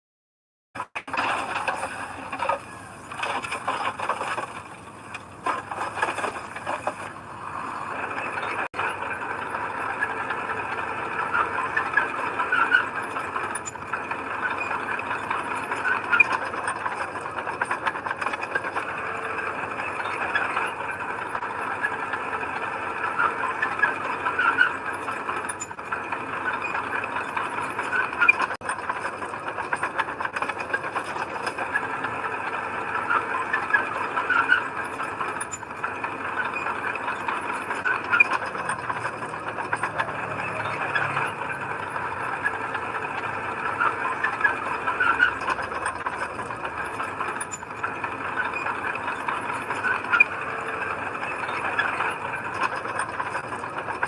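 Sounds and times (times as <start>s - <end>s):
heavy machinery running: 0.8s - 54.0s
metal squealing and rattling: 0.8s - 54.0s.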